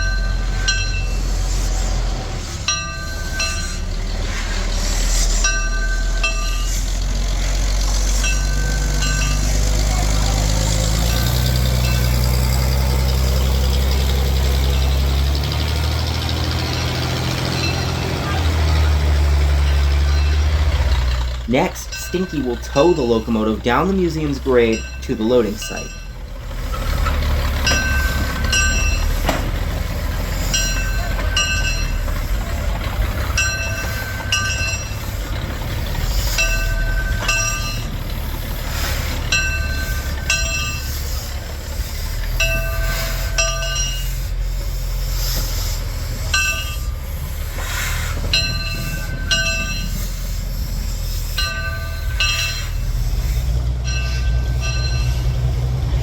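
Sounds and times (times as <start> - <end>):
diesel locomotive running: 0.0 - 56.0.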